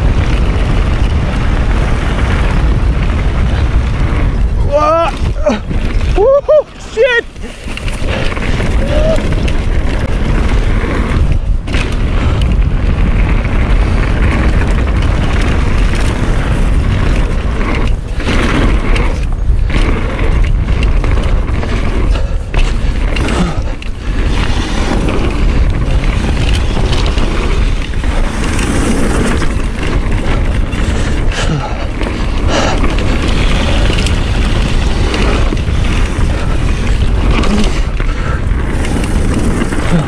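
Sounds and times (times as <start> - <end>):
bike tyres on dirt trail: 0.0 - 40.0
wind buffeting microphone: 0.0 - 40.0.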